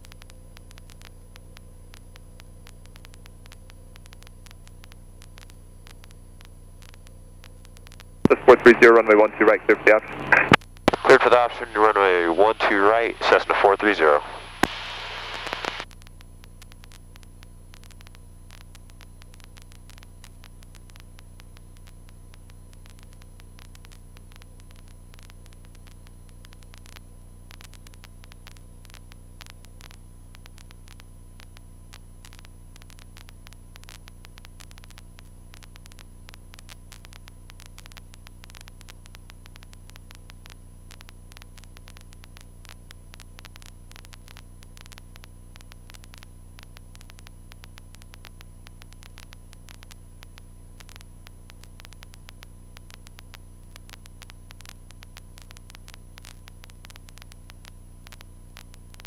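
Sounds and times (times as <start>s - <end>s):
electrical hum and hiss: 0.0s - 59.0s
static clicks: 0.0s - 59.0s.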